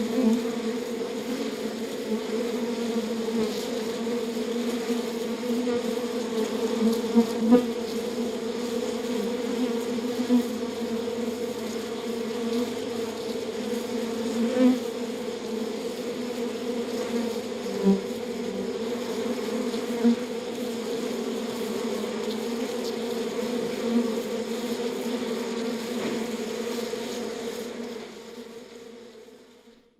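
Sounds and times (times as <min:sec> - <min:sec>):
bees buzzing at a hive: 0:00.0 - 0:29.9.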